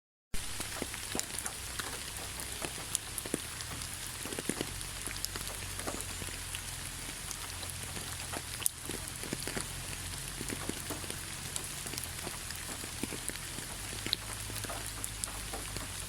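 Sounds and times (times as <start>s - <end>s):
low steady rumble: 0.4s - 16.0s
rain hiss: 0.4s - 16.0s
raindrops ticking: 0.4s - 16.0s.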